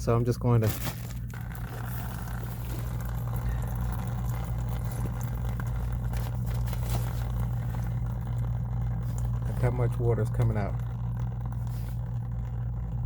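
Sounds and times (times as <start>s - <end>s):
low hum: 0.0s - 13.0s
water pouring out: 0.5s - 13.0s.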